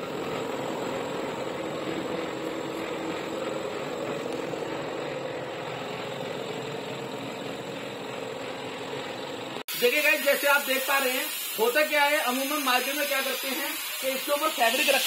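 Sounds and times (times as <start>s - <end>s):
workshop machinery drone: 0.0s - 15.0s.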